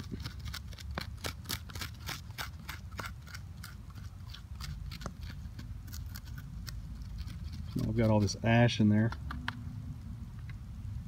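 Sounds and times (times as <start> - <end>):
flint scraping charred wood: 0.0 - 9.3.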